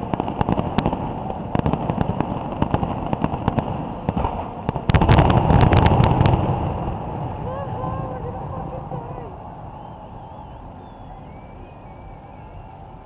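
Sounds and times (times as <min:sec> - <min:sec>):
fireworks popping and cracking: 0:00.0 - 0:12.6
fireworks bangs: 0:00.0 - 0:13.0.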